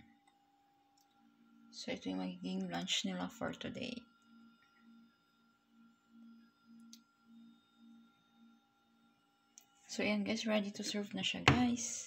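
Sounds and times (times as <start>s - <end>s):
faint pulsing low hum: 0.0s - 12.0s.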